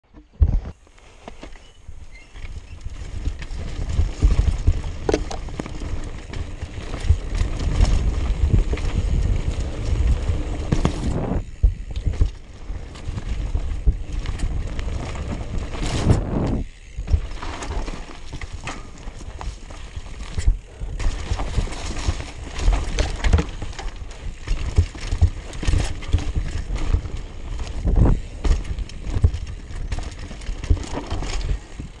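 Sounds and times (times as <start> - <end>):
bike rattling and clunking: 0.1 - 32.0
tyres rumbling over dirt: 2.2 - 32.0
wind buffeting microphone: 2.6 - 17.4, 19.6 - 30.8.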